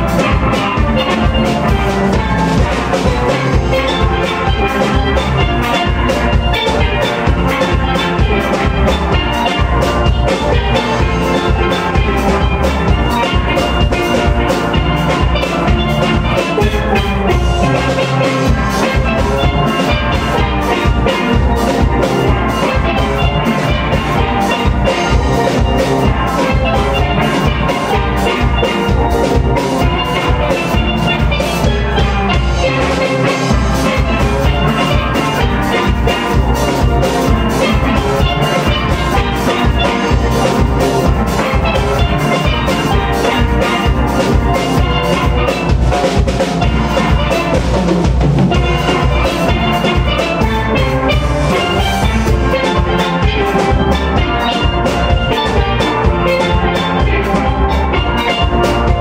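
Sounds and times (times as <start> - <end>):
steel band playing: 0.0 - 59.0.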